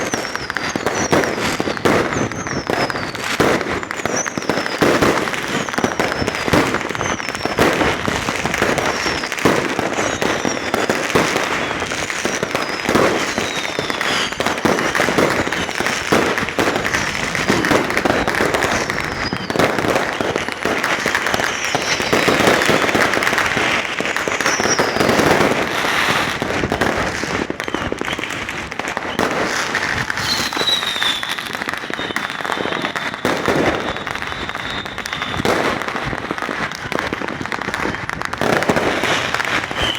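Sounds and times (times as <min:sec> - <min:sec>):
fireworks bangs and crackling: 0:00.0 - 0:39.9
whistling rockets: 0:00.0 - 0:39.9.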